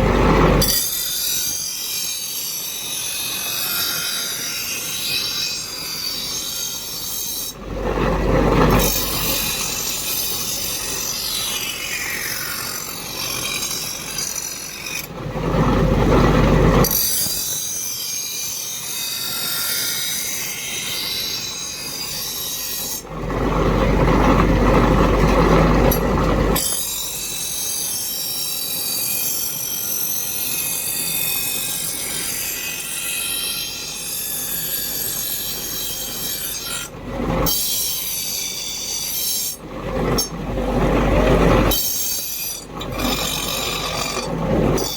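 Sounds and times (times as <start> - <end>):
steel scraping: 0.0 - 44.9.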